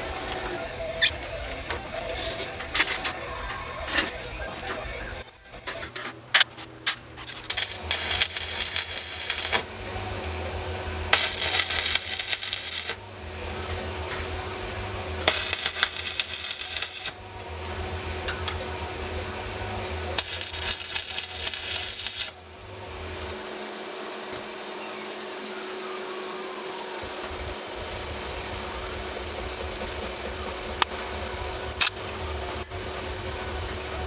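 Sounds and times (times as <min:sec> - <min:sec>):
steady hum: 0:00.0 - 0:34.0
welding electrode crackling: 0:00.0 - 0:34.0.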